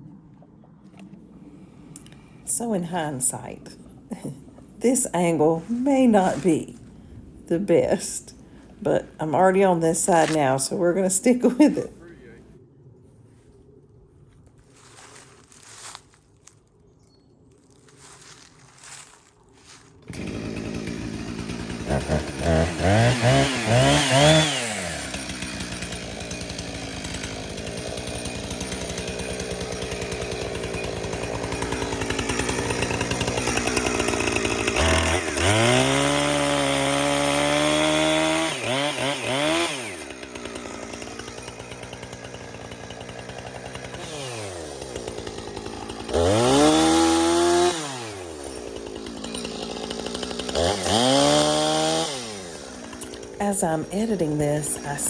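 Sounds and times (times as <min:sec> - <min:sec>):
chainsaw idling and revving: 0:01.2 - 0:12.5, 0:20.0 - 0:55.0
chainsaw starting: 0:01.2 - 0:12.5, 0:20.0 - 0:55.0.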